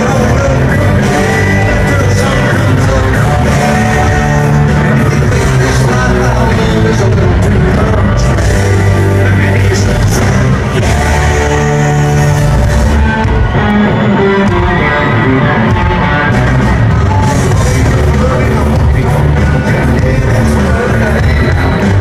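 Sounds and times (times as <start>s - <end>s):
person singing: 0.0s - 13.6s, 14.4s - 22.0s
electric guitar: 0.0s - 22.0s
live country-rock band: 0.0s - 22.0s.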